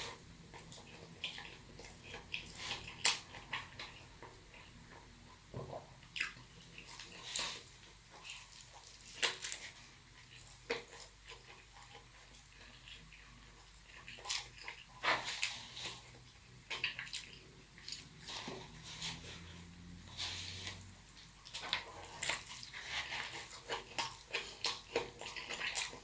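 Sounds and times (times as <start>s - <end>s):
wet chewing and mouth smacks: 0.0s - 26.0s.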